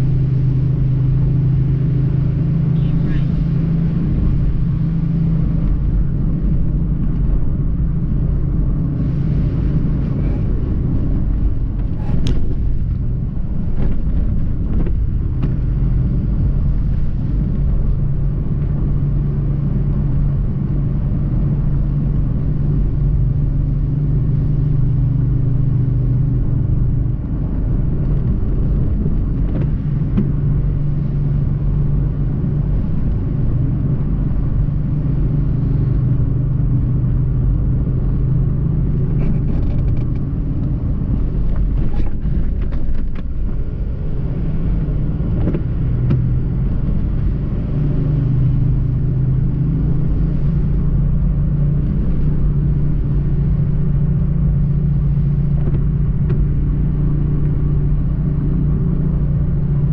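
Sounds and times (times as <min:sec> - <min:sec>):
car engine hum: 0:00.0 - 0:59.9
road noise: 0:00.0 - 0:59.9.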